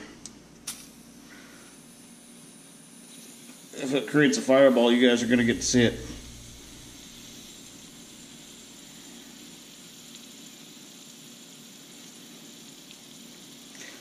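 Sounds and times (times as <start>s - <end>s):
gas hissing into valve: 0.0s - 14.0s.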